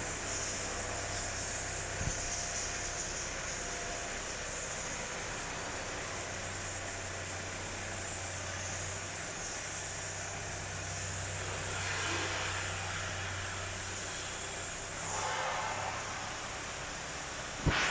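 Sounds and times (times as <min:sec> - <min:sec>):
router machine humming and hissing: 0:00.0 - 0:17.8.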